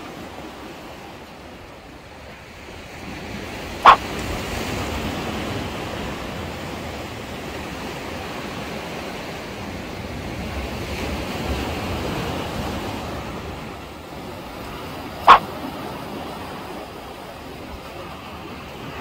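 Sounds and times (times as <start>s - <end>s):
sea waves washing against concrete: 0.0s - 19.0s.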